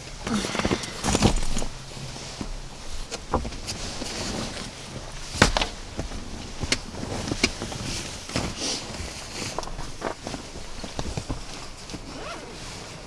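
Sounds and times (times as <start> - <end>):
rustling: 0.1 - 13.0.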